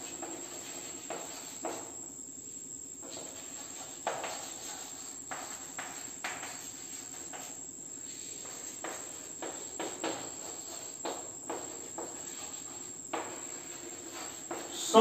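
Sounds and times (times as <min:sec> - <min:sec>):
chalk tapping and scratching: 0:00.0 - 0:02.0, 0:03.0 - 0:15.0.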